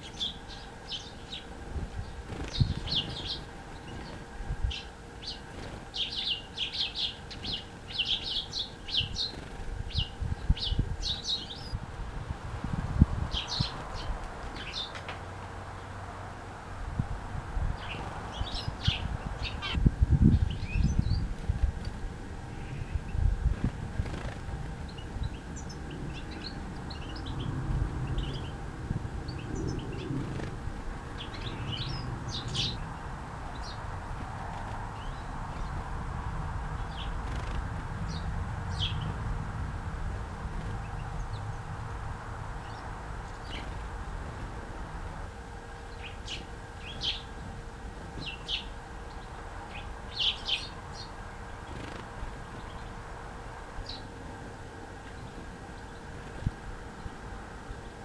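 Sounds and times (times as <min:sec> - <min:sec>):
low background rumble: 0:00.0 - 0:58.0
songbirds chirping: 0:00.0 - 0:58.0.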